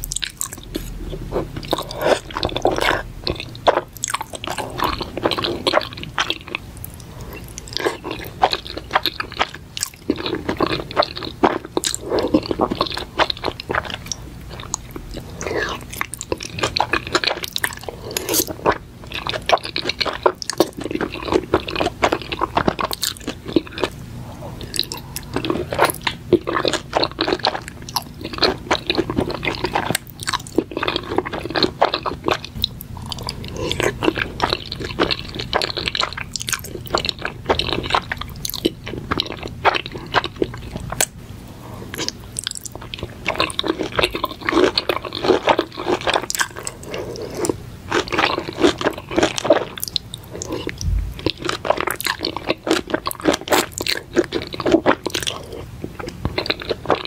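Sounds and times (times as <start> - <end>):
close chewing of food: 0.0 - 57.0.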